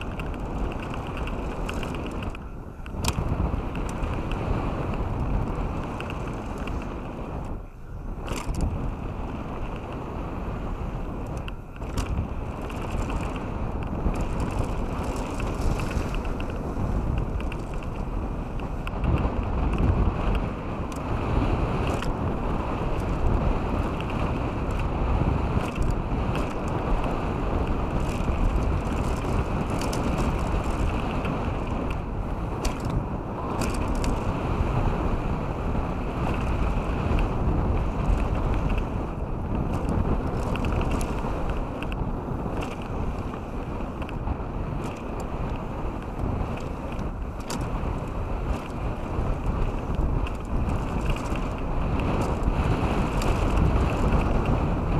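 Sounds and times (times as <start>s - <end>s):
stones and bike rattling: 0.0s - 54.9s
tyres rumbling on gravel: 0.0s - 54.9s
wind buffeting microphone: 0.0s - 54.9s.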